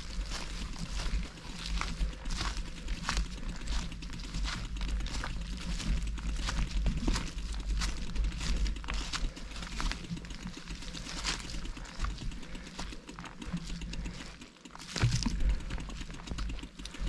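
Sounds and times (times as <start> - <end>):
bike rattling over bumps: 0.0 - 17.0
steady low rumble: 0.0 - 17.0.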